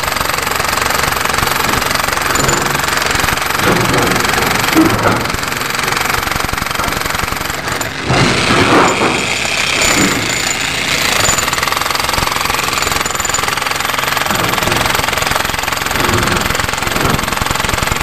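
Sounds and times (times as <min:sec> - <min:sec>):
jackhammer hammering concrete: 0:00.0 - 0:18.0.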